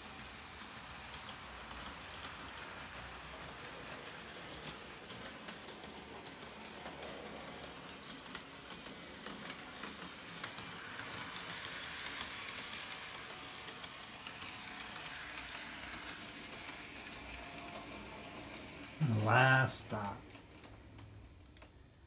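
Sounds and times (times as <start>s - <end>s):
model train whirring: 0.0s - 21.9s.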